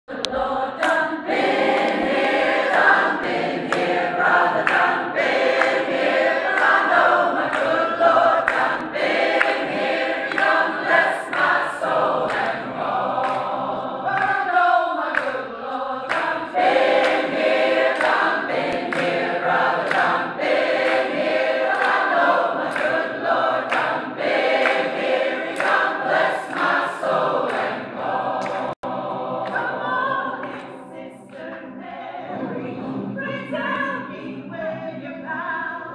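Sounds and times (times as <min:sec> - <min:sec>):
choir singing a cappella: 0:00.1 - 0:35.9
hand claps: 0:00.2 - 0:29.7.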